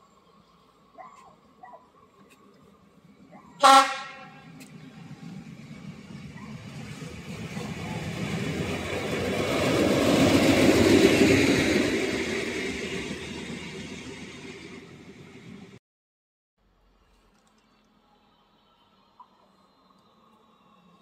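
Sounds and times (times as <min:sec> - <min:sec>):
rail vehicle passing: 0:00.0 - 0:15.8, 0:17.8 - 0:21.0.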